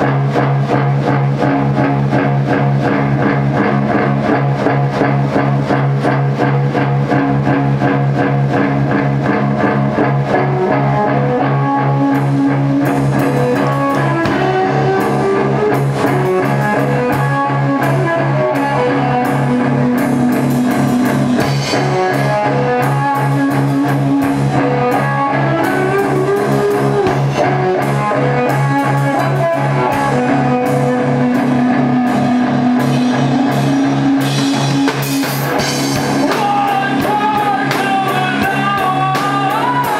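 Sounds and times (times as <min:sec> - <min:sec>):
low drone: 0:00.0 - 0:39.8
guitar melody: 0:00.0 - 0:39.9
rock band playing: 0:00.0 - 0:39.9.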